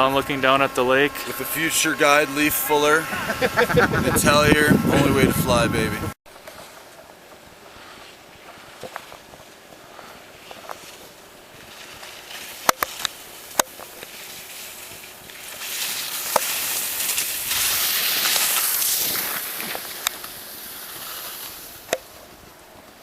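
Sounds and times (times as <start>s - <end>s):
skis sliding over snow: 0.0s - 23.0s.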